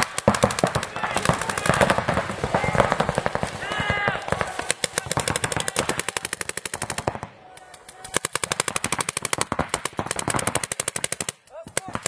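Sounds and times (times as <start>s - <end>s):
paintball markers firing rapidly: 0.0s - 12.0s.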